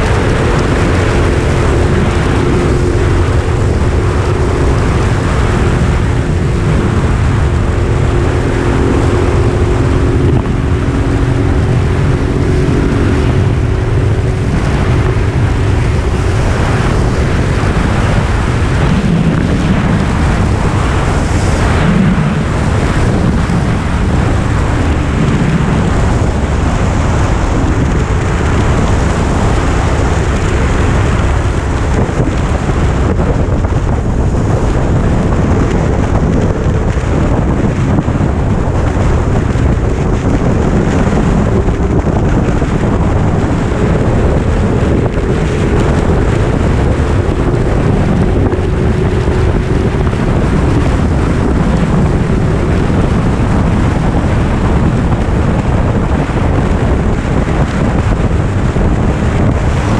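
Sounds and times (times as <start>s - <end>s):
motorcycle engine: 0.0s - 59.9s
wind noise on microphone: 0.0s - 59.9s.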